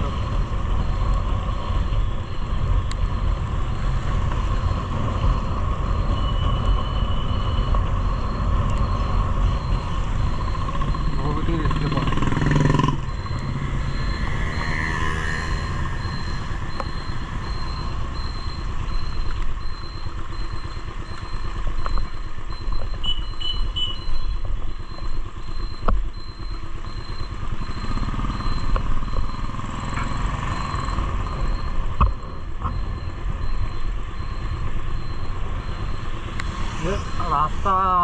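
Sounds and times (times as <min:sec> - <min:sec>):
motorcycle engine running: 0:00.0 - 0:38.0
road noise on wet road: 0:00.0 - 0:38.0.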